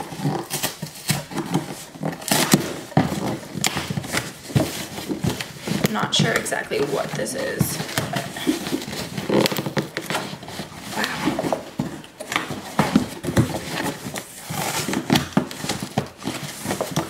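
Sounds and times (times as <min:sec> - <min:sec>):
cardboard box being torn open: 0:00.0 - 0:17.0
paper packing crackling: 0:00.0 - 0:17.0.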